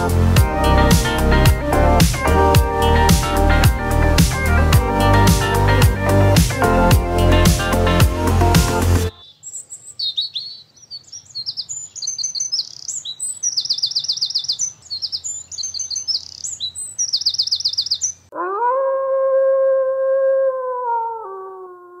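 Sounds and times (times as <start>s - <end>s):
songbirds chirping and trilling: 0.0s - 18.4s.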